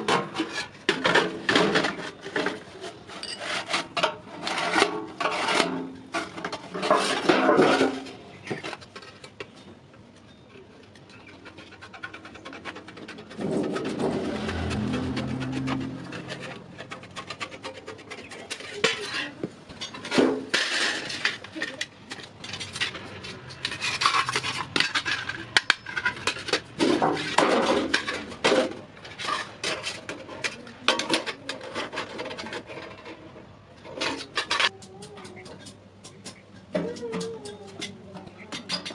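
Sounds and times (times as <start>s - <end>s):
scraping and rasping on iron: 0.0s - 9.3s, 11.1s - 34.7s.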